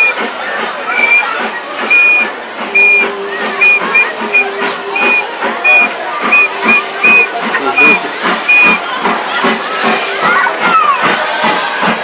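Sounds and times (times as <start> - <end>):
steam locomotive hissing chuffs: 0.0 - 12.0.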